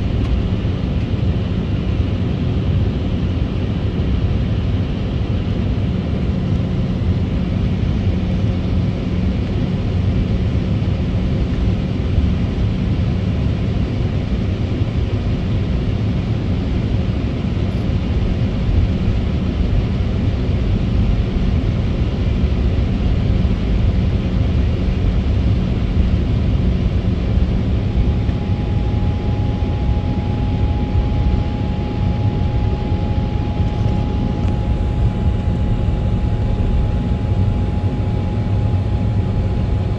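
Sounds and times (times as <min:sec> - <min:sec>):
jet engines idling rumble: 0:00.0 - 0:39.9.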